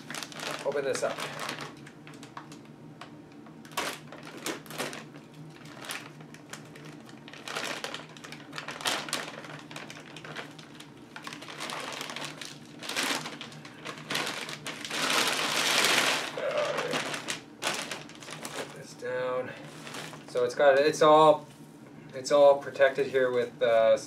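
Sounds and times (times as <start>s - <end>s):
plastic bag crinkling: 0.0s - 19.0s, 19.6s - 21.2s.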